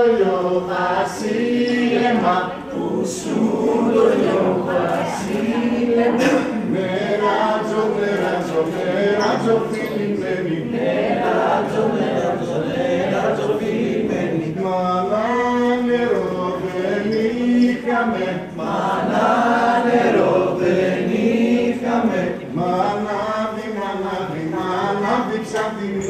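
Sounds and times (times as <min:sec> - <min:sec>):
group singing unaccompanied chant: 0:00.0 - 0:26.0.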